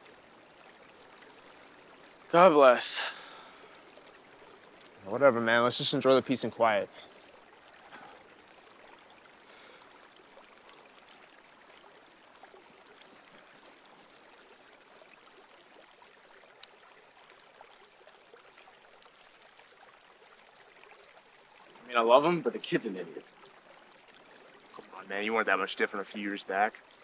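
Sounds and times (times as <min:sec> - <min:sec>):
creek flowing: 0:00.0 - 0:27.0.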